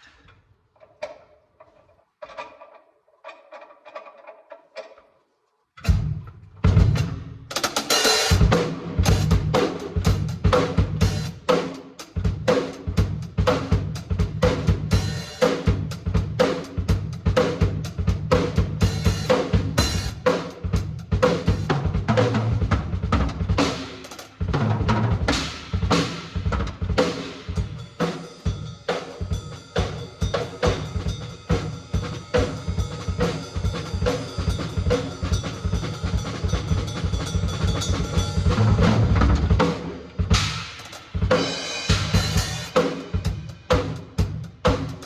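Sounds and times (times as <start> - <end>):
drum kit groove with rimshots: 5.8 - 45.0.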